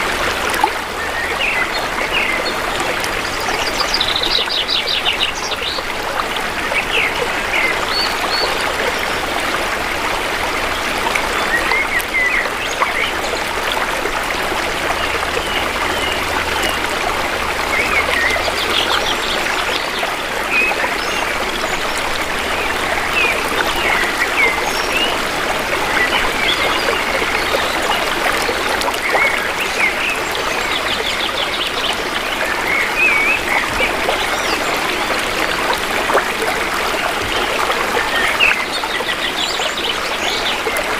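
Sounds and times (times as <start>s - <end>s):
shallow river flowing: 0.0s - 40.9s.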